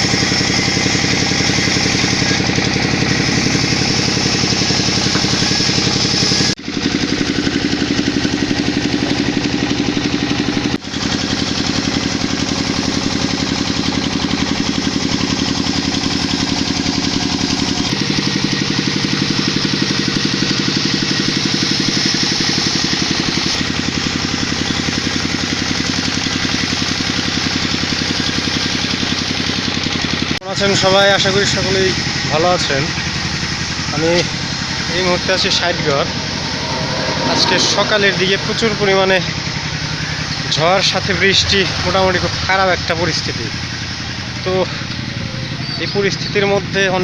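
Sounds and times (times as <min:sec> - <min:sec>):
small vehicle engine running: 0:00.0 - 0:47.0.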